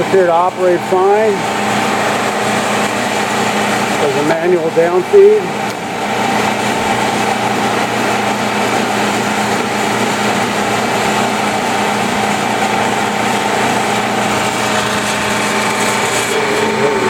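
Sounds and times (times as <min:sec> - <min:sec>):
drill press whining: 0:00.0 - 0:17.0.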